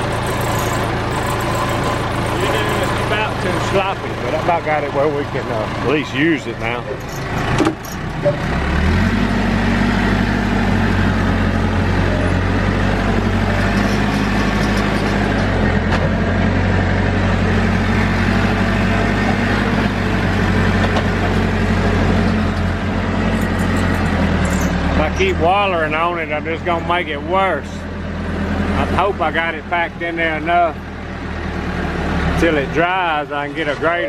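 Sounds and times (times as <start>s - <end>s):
backhoe diesel engine revving: 0.0s - 34.0s.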